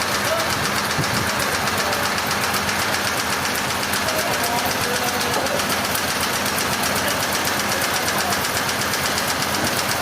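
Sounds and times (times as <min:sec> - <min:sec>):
engine running with clatter: 0:00.0 - 0:10.0.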